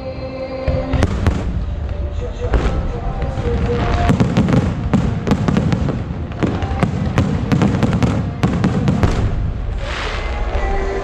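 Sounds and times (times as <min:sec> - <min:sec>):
fireworks booming: 0:00.7 - 0:10.6
fireworks crackling: 0:00.9 - 0:11.0.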